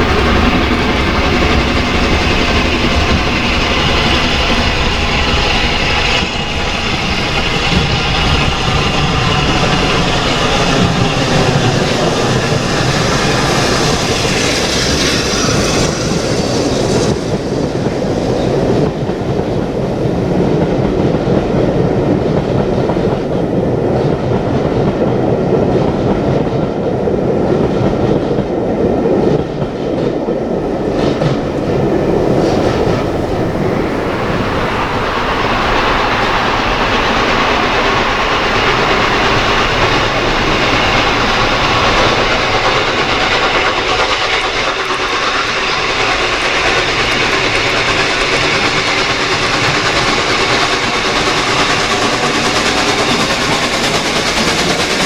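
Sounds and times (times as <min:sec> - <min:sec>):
train wheels running over rails: 0:00.0 - 0:55.0.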